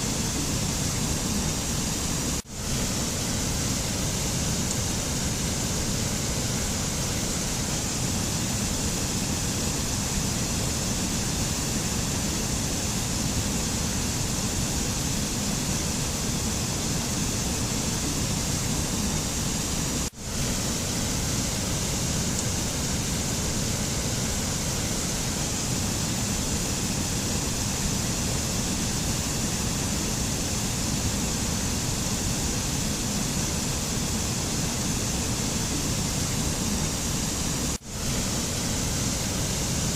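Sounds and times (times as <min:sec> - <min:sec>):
steady rushing nature ambience: 0:00.0 - 0:39.9.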